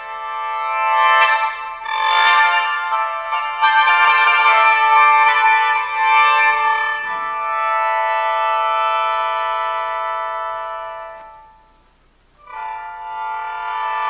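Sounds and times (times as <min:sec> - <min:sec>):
mouth organ sustained chords: 0:00.0 - 0:14.0.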